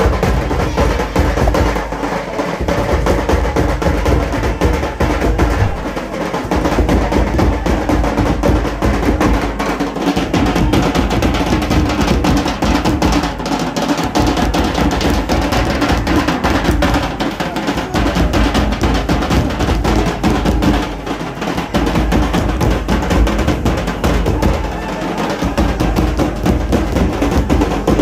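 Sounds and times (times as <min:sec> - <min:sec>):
drums beaten with sticks: 0:00.0 - 0:28.0.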